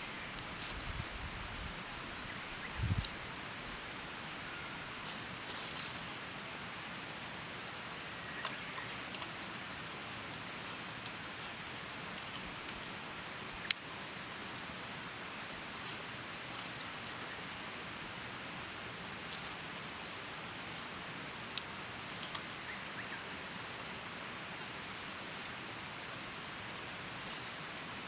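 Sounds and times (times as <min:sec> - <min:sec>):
faint fire crackles: 0:00.0 - 0:28.0.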